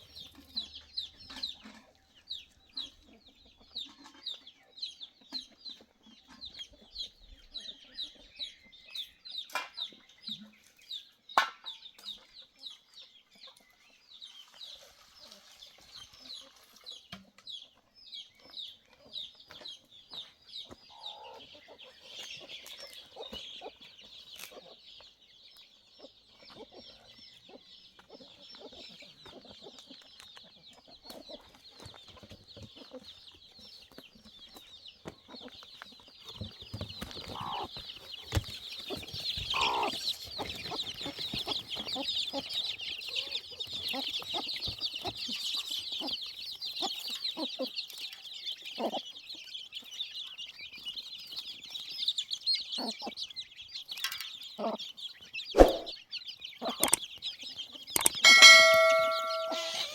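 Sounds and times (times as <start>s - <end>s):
chickens clucking and peeping: 0.0s - 59.9s.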